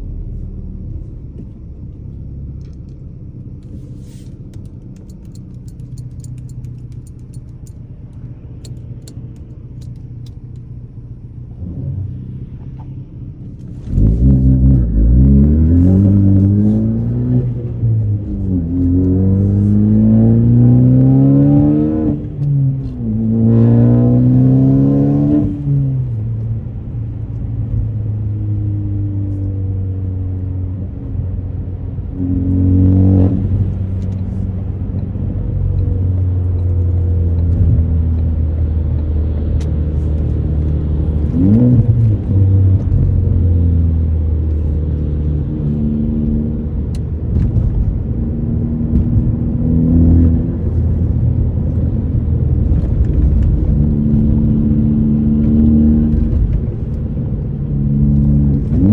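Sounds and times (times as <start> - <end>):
car engine revving while driving: 11.4 - 58.9.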